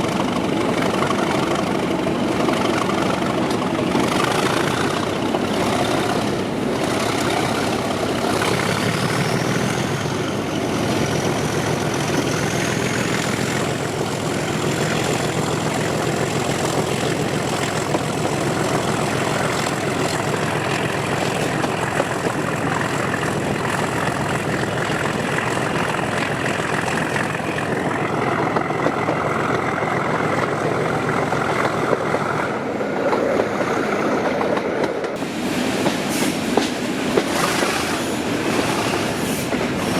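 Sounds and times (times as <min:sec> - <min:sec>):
diesel locomotive engine: 0:00.0 - 0:39.9.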